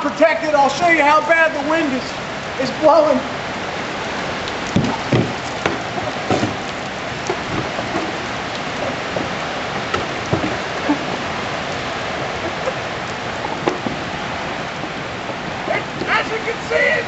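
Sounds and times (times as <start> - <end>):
hiss of falling water: 0.0 - 17.0.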